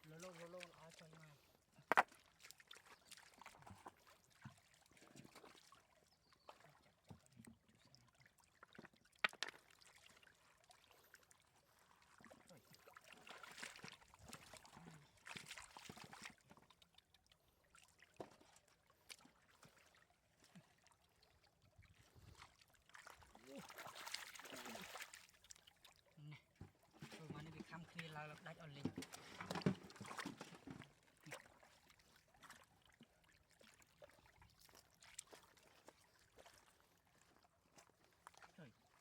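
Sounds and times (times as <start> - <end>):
faint water splashing and trickling: 0.0 - 39.0.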